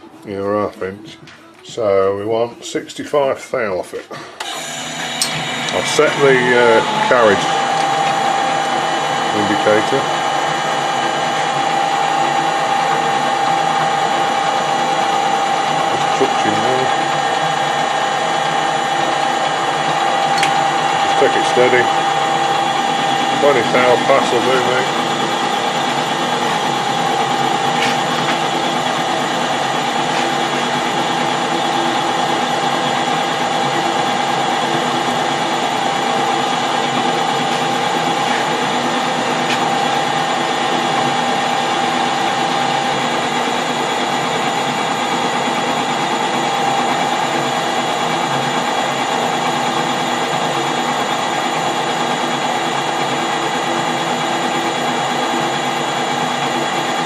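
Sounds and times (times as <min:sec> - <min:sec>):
metal lathe running: 0:04.4 - 0:57.0.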